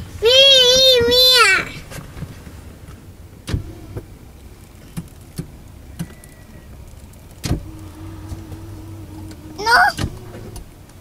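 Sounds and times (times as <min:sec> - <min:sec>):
vehicle rumble from inside cabin: 0:00.0 - 0:11.0.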